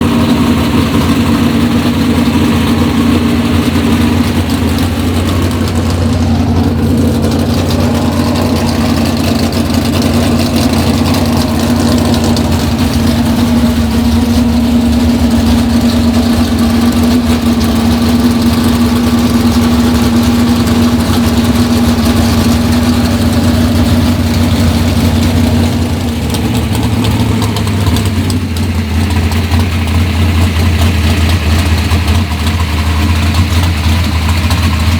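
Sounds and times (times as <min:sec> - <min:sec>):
car engine idling loudly: 0:00.0 - 0:34.9.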